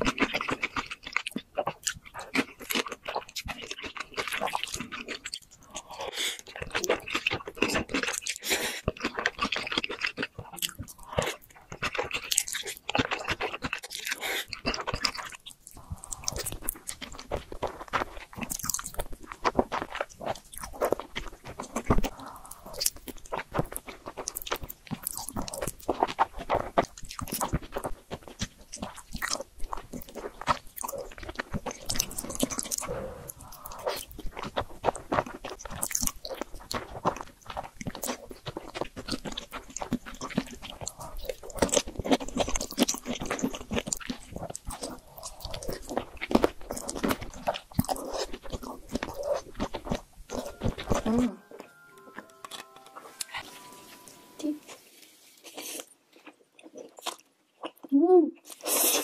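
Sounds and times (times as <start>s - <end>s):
wet chewing and slurping: 0.0s - 51.4s, 54.6s - 59.0s.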